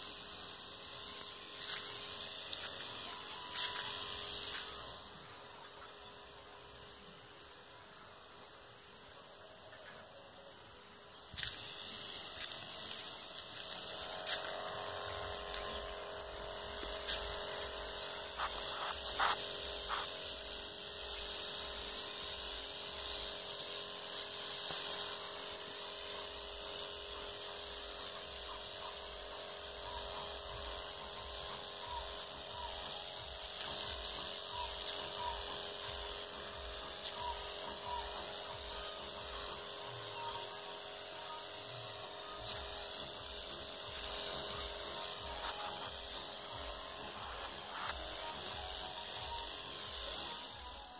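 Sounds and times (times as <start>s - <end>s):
electric sprayer pump humming: 0.0s - 50.9s.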